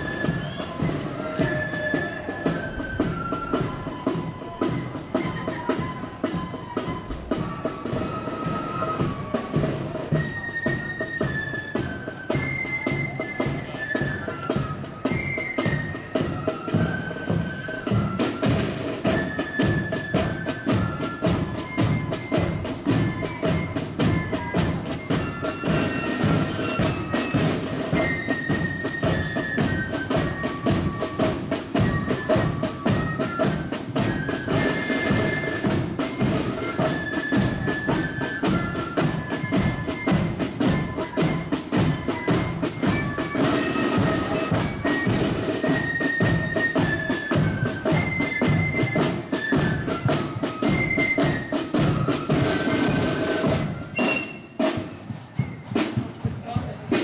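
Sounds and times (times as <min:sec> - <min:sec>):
flutes playing a melody: 0:00.0 - 0:57.0
rapid side-drum strokes: 0:00.0 - 0:57.0.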